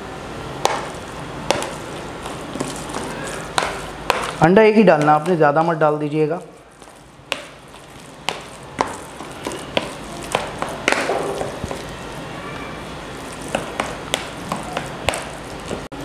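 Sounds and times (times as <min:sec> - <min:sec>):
wet squishing of kneaded meat: 0:00.6 - 0:04.5, 0:06.3 - 0:16.0.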